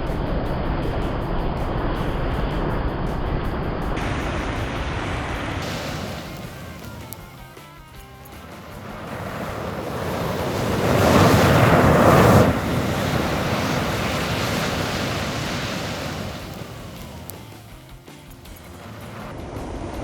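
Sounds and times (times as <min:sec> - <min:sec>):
fire flaring with rushing hiss: 0:00.0 - 0:17.9, 0:18.5 - 0:20.0.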